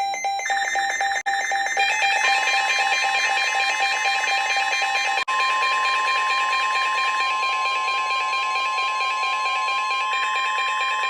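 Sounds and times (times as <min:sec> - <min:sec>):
steady high alert tone: 0:00.0 - 0:11.0.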